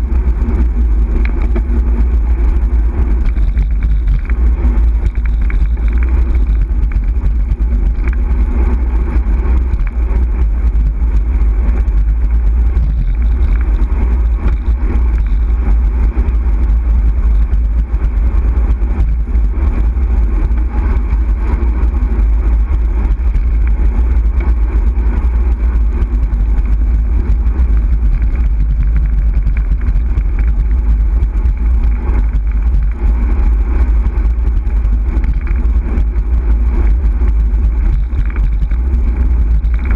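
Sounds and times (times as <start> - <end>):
road and tyre noise: 0.0 - 39.9
wind buffeting microphone: 0.0 - 39.9.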